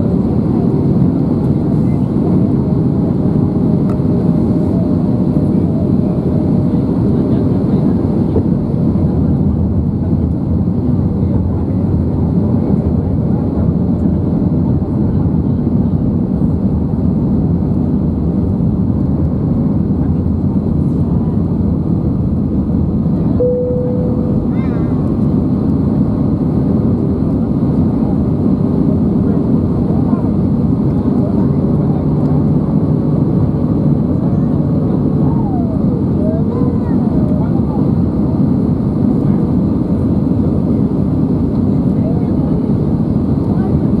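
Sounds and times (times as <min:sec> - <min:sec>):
airplane cabin noise: 0:00.0 - 0:44.0.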